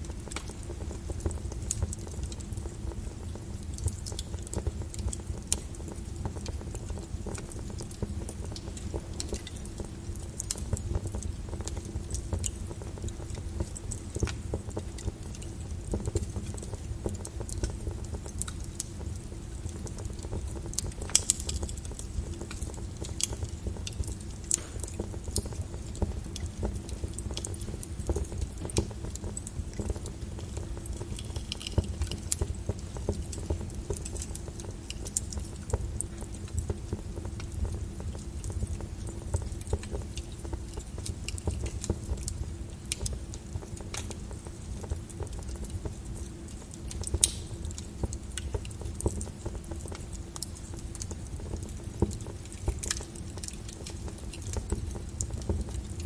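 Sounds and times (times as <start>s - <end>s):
steady rain: 0.0s - 56.0s
wood fire crackling: 0.0s - 56.0s.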